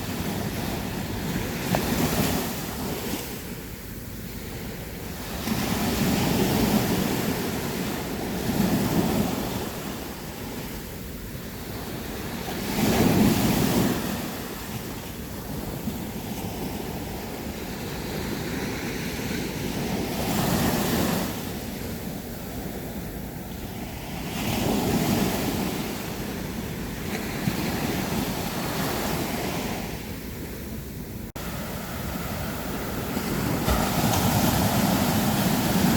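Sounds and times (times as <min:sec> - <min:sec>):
sea waves breaking on beach: 0:00.0 - 0:30.2, 0:31.3 - 0:35.9.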